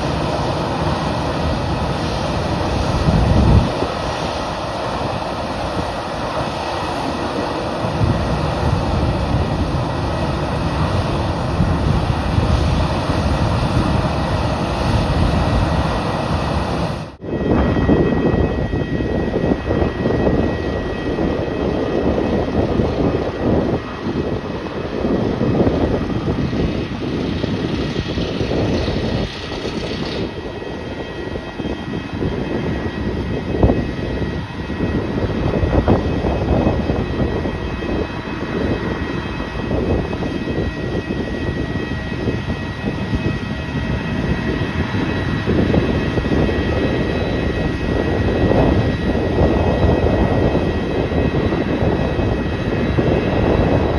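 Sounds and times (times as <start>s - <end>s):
jet airliner engines running: 0.0s - 53.9s.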